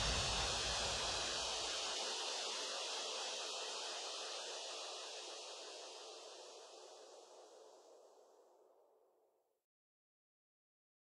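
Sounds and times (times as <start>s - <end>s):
hiss-like noise wash: 0.0s - 9.0s.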